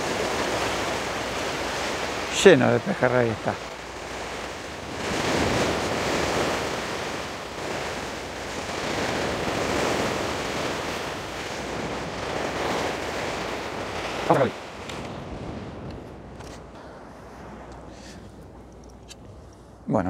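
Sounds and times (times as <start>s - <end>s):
waves washing against rocks: 0.0s - 19.2s
wind on microphone: 0.0s - 19.9s.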